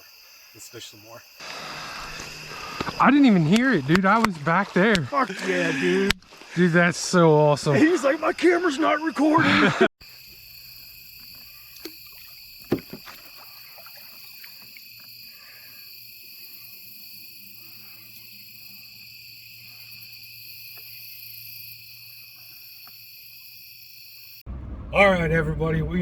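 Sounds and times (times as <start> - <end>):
crickets and insects trilling: 0.0 - 24.4.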